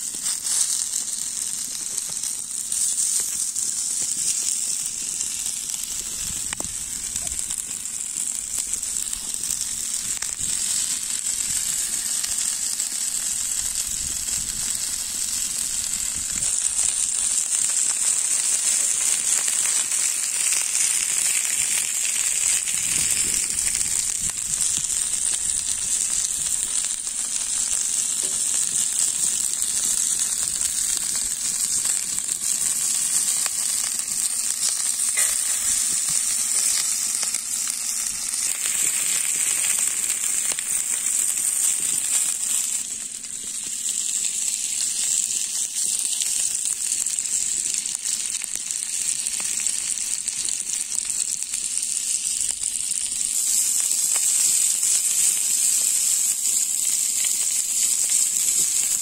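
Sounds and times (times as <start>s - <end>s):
meat sizzling on a griddle: 0.0s - 59.0s.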